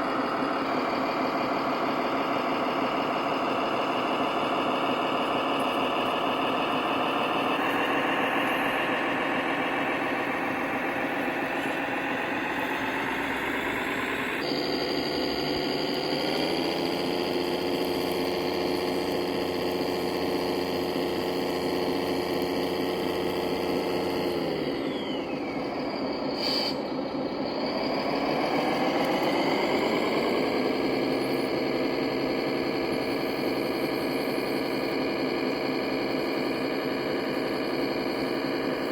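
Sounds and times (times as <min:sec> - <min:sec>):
model vehicle engine revving: 0:03.2 - 0:26.8, 0:27.6 - 0:38.9.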